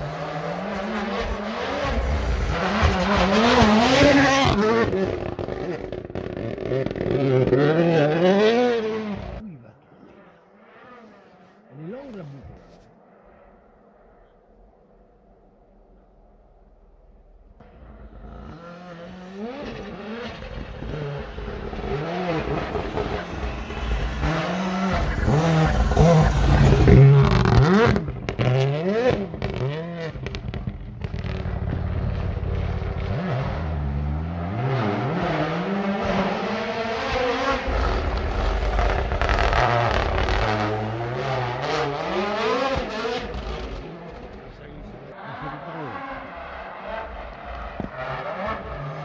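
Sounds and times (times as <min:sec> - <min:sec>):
rally car engine revving: 0:00.0 - 0:12.7, 0:17.6 - 0:49.0.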